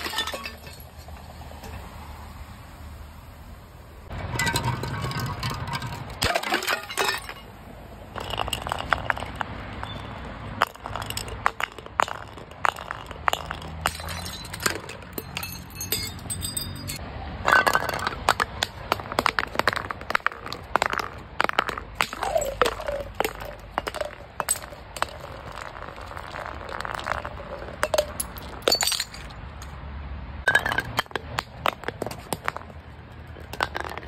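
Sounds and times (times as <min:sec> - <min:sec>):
glass bottles smashing: 0:00.0 - 0:01.2, 0:04.3 - 0:29.4, 0:30.5 - 0:32.6.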